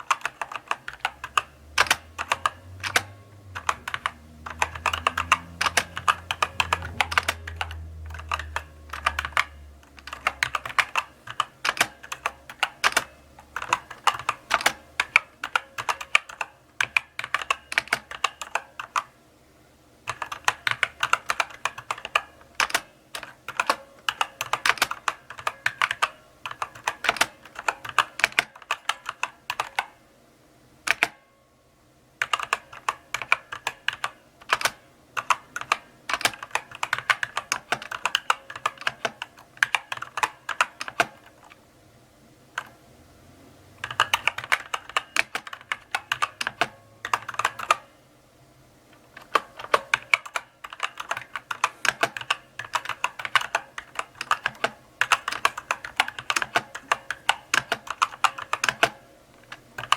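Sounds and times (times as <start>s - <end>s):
mechanical keyboard typing: 0.0s - 19.1s, 20.0s - 30.0s, 30.8s - 31.2s, 32.2s - 41.6s, 42.6s - 42.8s, 43.8s - 47.9s, 49.0s - 59.9s.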